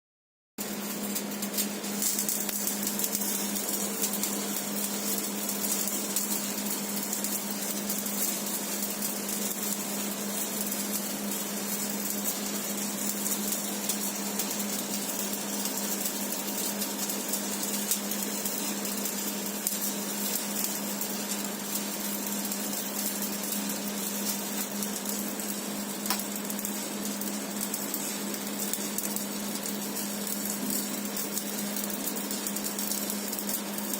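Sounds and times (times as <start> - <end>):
welding arc crackling and hissing: 0.6 - 33.9.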